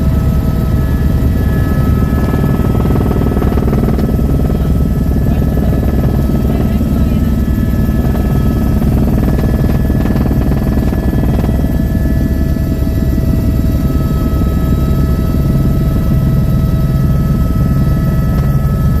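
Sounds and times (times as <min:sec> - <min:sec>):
helicopter rotor beating: 0:00.0 - 0:19.0
helicopter whining tones: 0:00.0 - 0:19.0.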